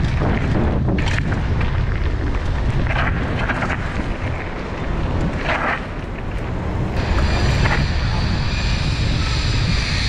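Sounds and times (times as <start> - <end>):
tyres rolling on gravel: 0.0 - 9.4
wind on microphone: 0.0 - 10.0.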